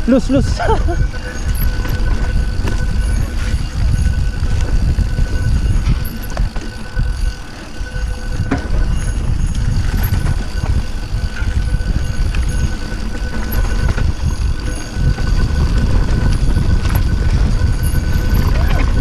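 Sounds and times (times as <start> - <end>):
bike rattling clicks and knocks: 0.0 - 19.0
wind and tyres on dirt trail: 0.0 - 19.0.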